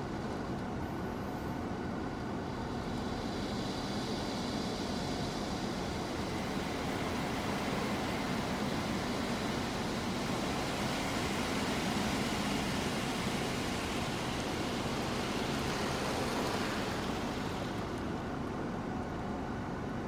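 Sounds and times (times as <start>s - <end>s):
car wash water spraying: 2.3s - 20.0s.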